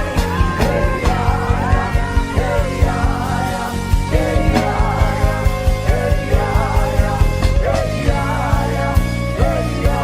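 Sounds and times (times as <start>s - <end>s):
worship music with steady beat: 0.0s - 10.0s.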